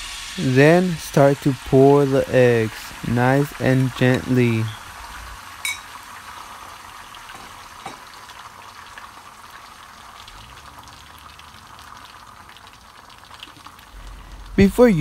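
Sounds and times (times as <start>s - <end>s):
eggs sizzling in frying pan: 0.0s - 15.0s.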